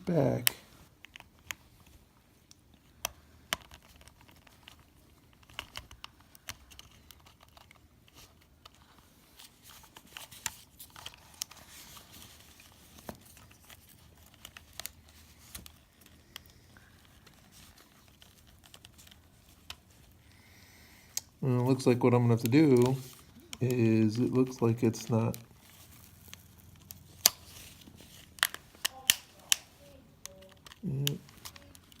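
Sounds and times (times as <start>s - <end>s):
plastic headset parts clicking: 0.0s - 20.2s, 21.0s - 32.0s.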